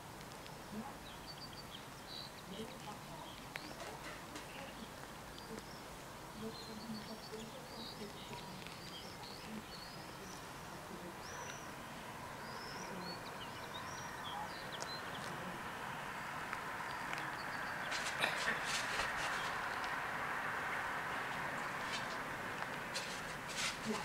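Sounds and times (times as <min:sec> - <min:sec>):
outdoor background hiss: 0:00.0 - 0:24.0
small birds chirping: 0:00.0 - 0:24.0.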